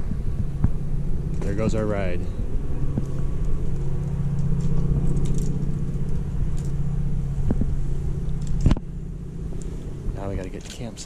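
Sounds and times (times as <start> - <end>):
constant hum: 0.0 - 11.0
steady low rumble: 0.0 - 11.0.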